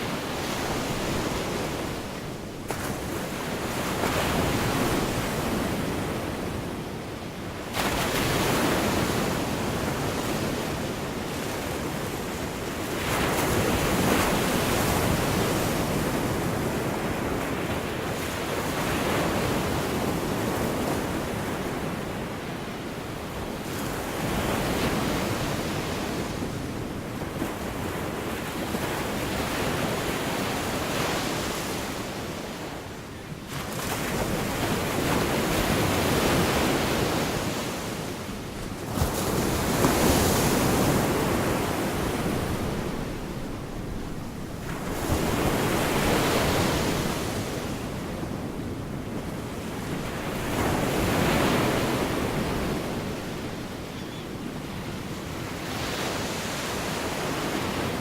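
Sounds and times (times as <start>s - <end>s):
waves breaking and washing in: 0.0s - 58.0s.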